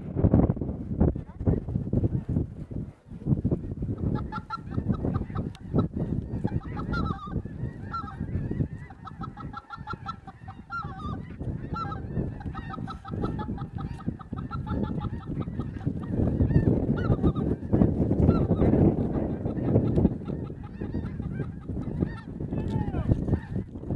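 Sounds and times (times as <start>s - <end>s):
geese honking: 4.0s - 23.7s.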